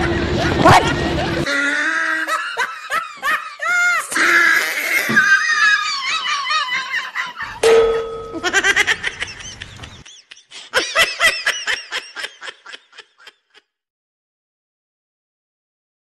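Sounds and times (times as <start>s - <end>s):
hearty laughter: 0.0s - 7.6s, 8.4s - 13.8s.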